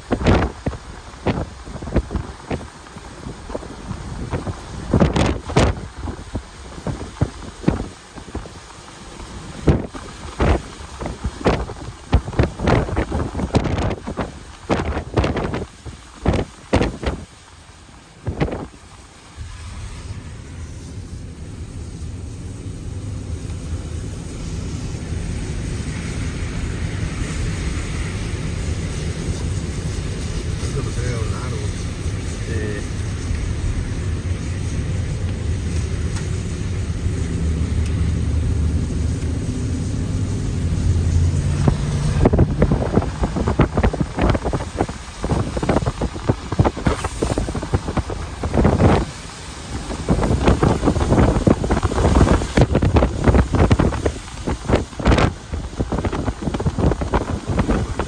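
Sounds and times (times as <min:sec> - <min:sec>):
low engine hum: 0:00.0 - 0:58.0
vehicle rumble: 0:00.0 - 0:58.0
wind buffeting microphone: 0:00.0 - 0:58.0.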